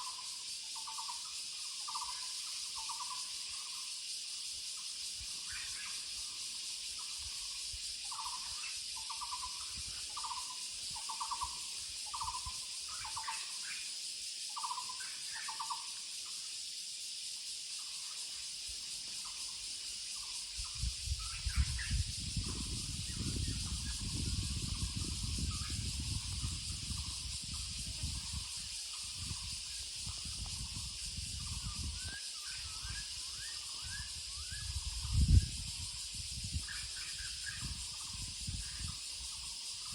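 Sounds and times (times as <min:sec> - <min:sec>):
insect hiss: 0:00.0 - 0:39.9.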